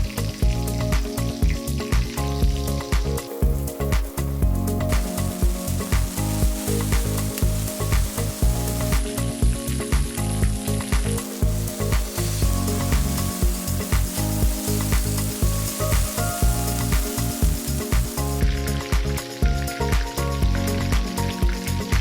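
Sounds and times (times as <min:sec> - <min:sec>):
background music with beat: 0:00.0 - 0:22.0
meat sizzling in hot oil: 0:00.0 - 0:22.0.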